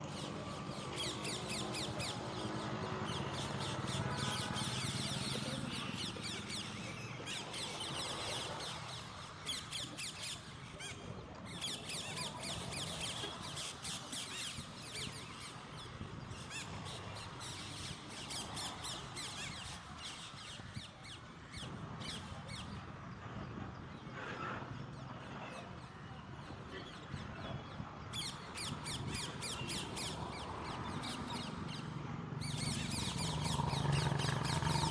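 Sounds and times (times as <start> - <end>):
flock of parrots chirping: 0.1 - 22.8, 28.1 - 34.9.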